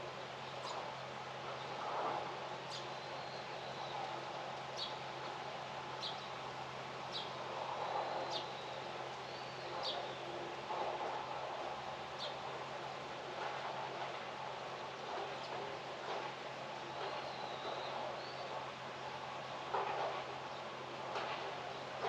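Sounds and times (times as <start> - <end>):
outdoor ambience hiss: 0.0 - 22.0.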